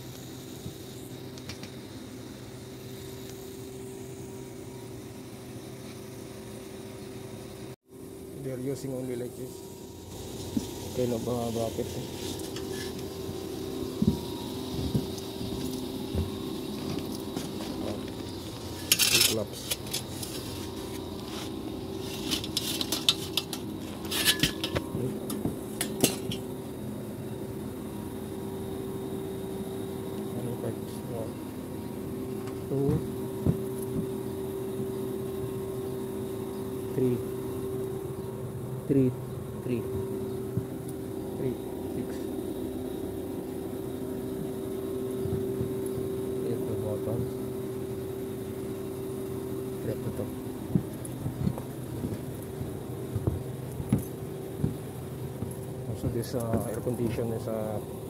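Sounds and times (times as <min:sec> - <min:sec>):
air conditioning units humming: 0:00.0 - 0:58.0.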